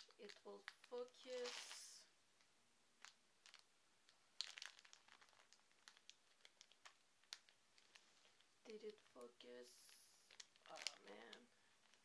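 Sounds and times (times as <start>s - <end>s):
plastic bag crinkling: 0.0s - 2.1s, 3.0s - 12.0s
sharp crackle: 0.0s - 12.0s.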